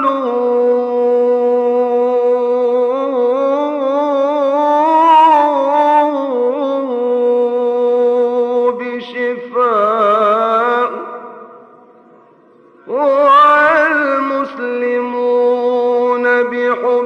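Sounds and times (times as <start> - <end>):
man singing unaccompanied: 0.0 - 11.6, 12.8 - 17.0.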